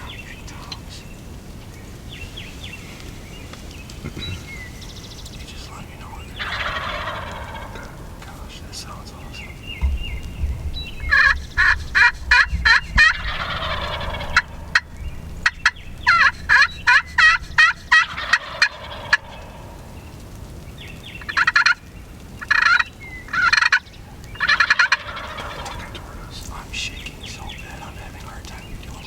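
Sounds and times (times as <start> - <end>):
turkeys gobbling loudly: 0.0 - 29.0.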